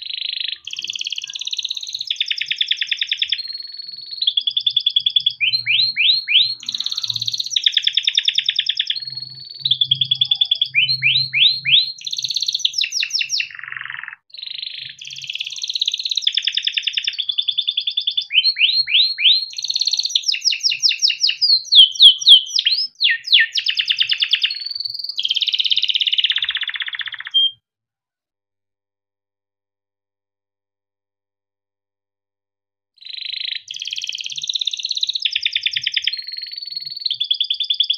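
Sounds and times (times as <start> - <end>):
canary singing trills: 0.0 - 27.6, 33.0 - 37.9.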